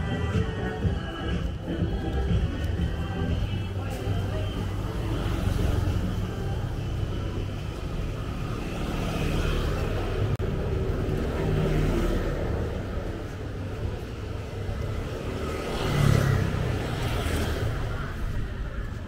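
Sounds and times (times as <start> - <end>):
busy city street noise: 0.0 - 19.0.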